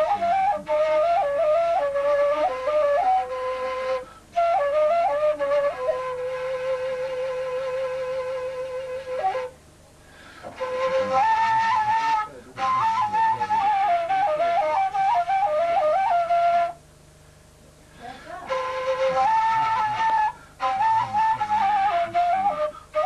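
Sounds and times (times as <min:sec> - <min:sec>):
wooden flute folk melody: 0:00.0 - 0:09.7, 0:10.4 - 0:17.0, 0:18.0 - 0:23.0.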